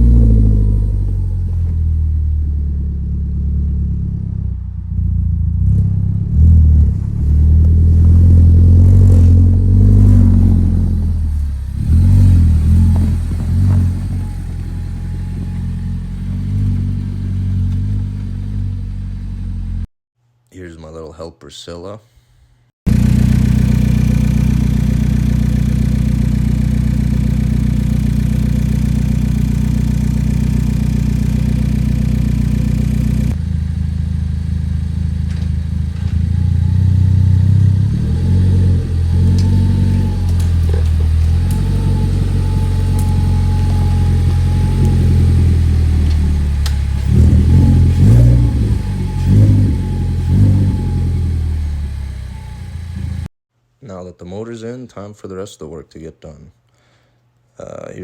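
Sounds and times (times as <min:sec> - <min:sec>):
car engine idling and revving: 0:00.0 - 0:19.9, 0:22.9 - 0:53.3.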